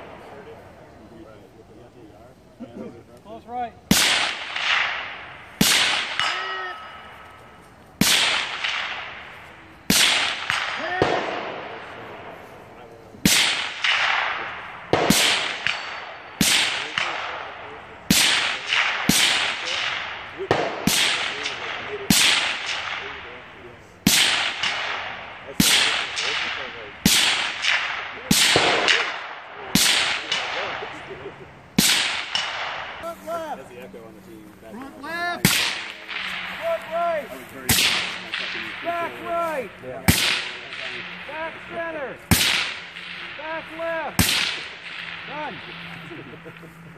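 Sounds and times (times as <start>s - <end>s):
rifle shots with echo: 3.9s - 7.1s, 8.0s - 12.4s, 13.2s - 31.2s, 31.8s - 33.0s, 35.4s - 46.6s.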